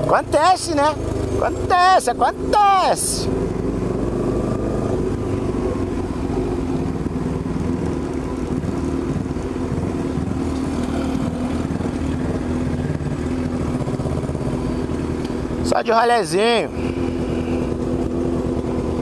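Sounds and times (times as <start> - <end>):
motorcycle engine through loud exhaust: 0.0 - 19.0.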